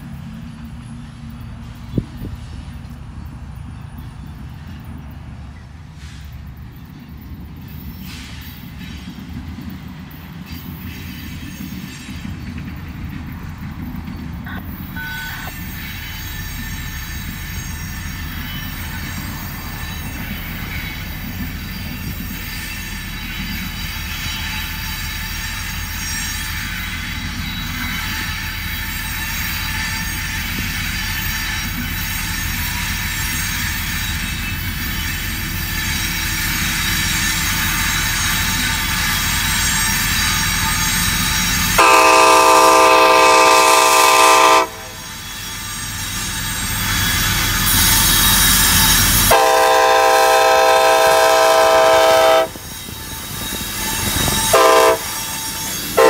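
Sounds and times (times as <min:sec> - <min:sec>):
diesel locomotive engines droning: 0:00.0 - 0:56.0
high squeal from train wheels: 0:00.0 - 0:56.0.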